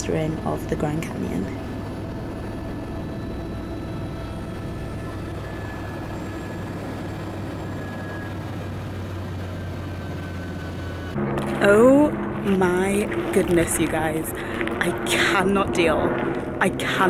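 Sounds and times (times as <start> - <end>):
helicopter turbine whine: 0.0 - 17.0
rotors humming: 0.0 - 17.0.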